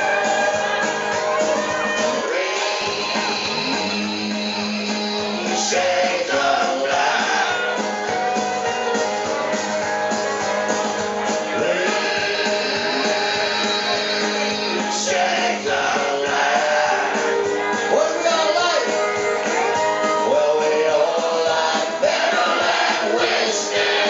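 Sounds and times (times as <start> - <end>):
acoustic and electric guitars: 0.0 - 24.0
upright bass: 0.0 - 24.0.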